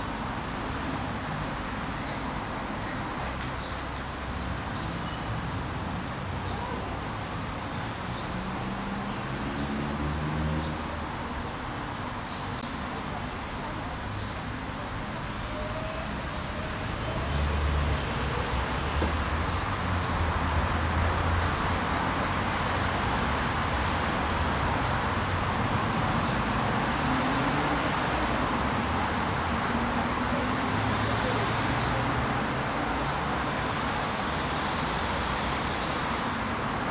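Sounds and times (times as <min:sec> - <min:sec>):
city traffic noise: 0:00.0 - 0:36.9.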